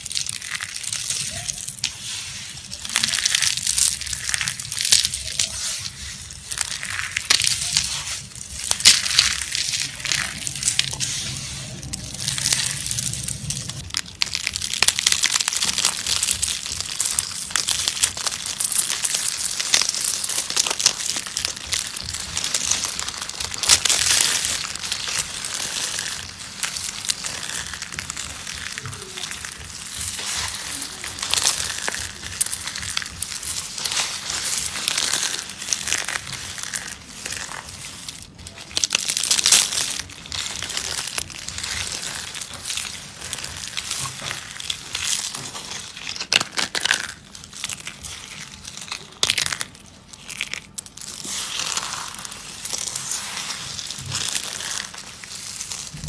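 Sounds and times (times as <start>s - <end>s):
dry soap crunching and crackling: 0.0s - 56.0s.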